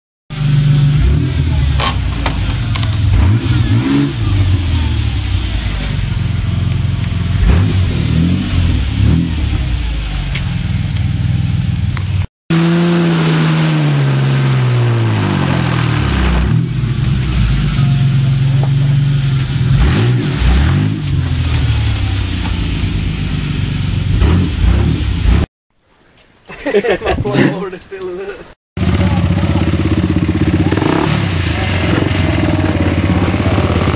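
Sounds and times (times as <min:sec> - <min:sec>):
vehicle engine revving: 0:00.3 - 0:25.5, 0:28.8 - 0:33.9.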